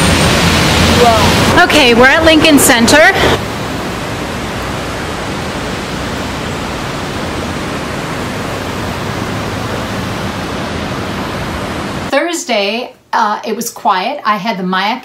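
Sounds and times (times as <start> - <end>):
steady outdoor ambient noise: 0.0 - 13.2.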